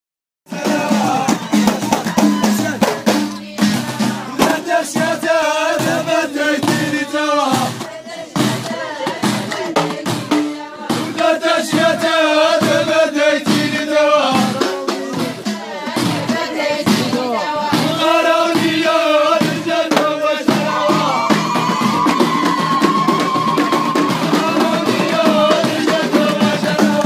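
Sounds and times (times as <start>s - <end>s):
frame drums beating: 0.5s - 27.0s
men chanting together: 0.5s - 27.0s.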